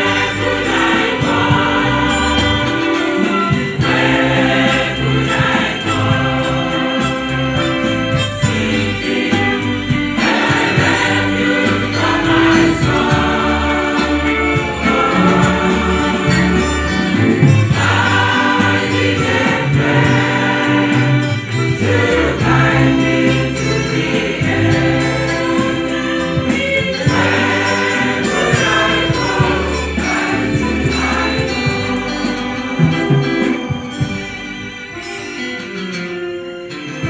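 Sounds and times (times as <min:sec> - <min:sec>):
choir singing a hymn: 0:00.0 - 0:35.1.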